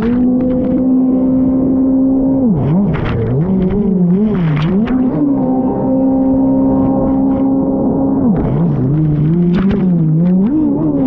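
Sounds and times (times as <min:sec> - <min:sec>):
jet ski engine revving: 0:00.0 - 0:11.0.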